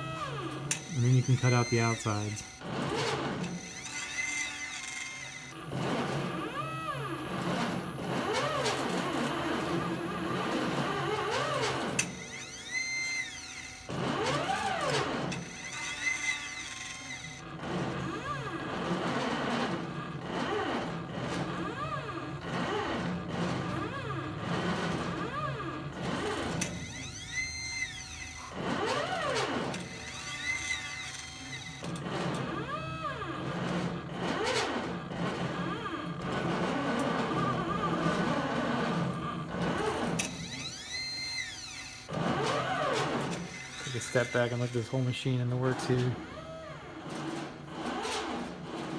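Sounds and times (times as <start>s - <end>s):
stepper motors whining: 0.0s - 48.9s.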